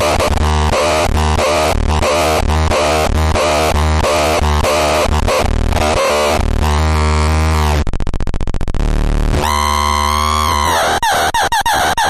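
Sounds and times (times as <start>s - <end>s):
buzzy synth tones: 0.0s - 12.0s.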